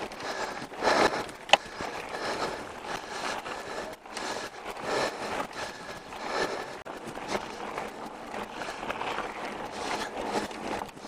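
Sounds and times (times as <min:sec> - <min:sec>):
bike tyres rolling on dirt: 0:00.0 - 0:11.0.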